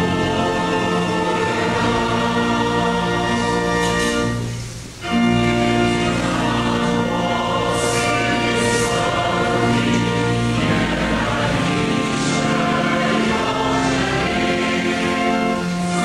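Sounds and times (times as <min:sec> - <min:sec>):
choir singing a slow hymn: 0:00.0 - 0:16.0.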